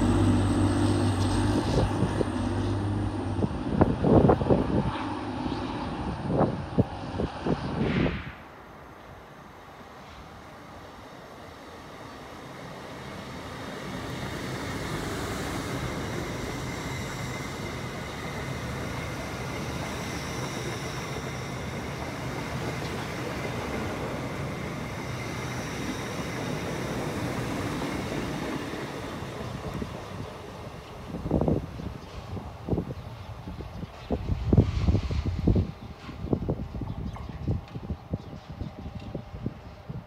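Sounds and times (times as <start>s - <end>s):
train passing at speed: 0.0s - 40.0s.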